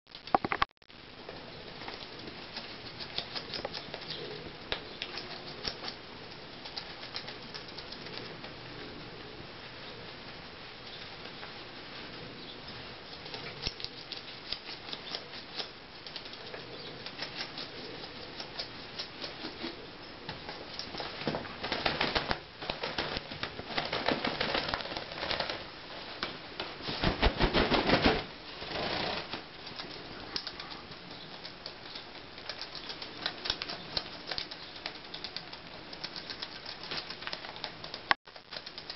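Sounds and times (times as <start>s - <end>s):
duck preening feathers: 1.2s - 9.4s, 10.0s - 38.9s.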